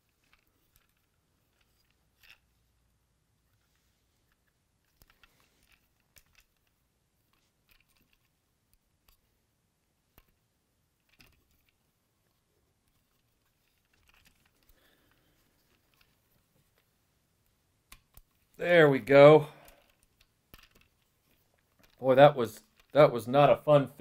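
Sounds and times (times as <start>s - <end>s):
rustling: 0.0s - 23.6s.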